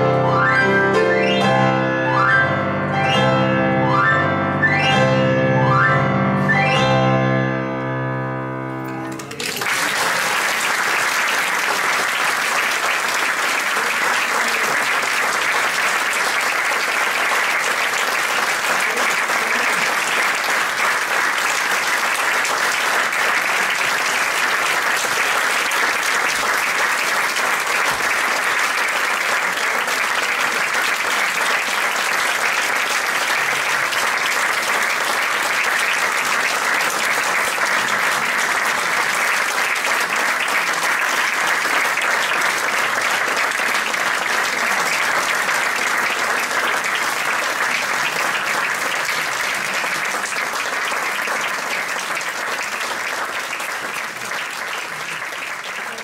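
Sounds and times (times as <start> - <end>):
audience applauding: 8.8 - 56.0.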